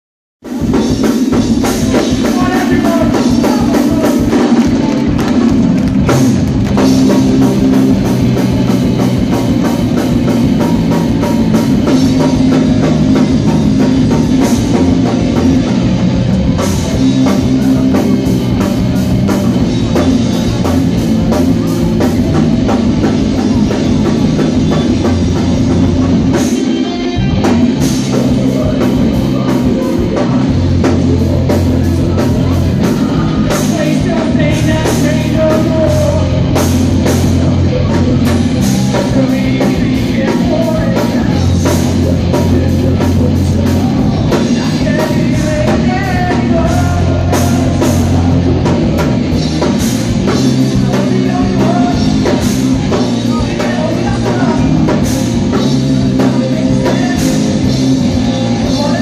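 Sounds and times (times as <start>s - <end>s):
live rock band playing: 0.4s - 59.0s.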